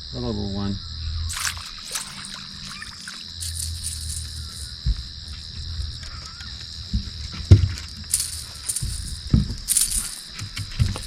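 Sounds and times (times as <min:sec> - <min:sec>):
dull low thumps: 0:00.0 - 0:01.4, 0:03.5 - 0:11.0
insects chirring: 0:00.0 - 0:11.0.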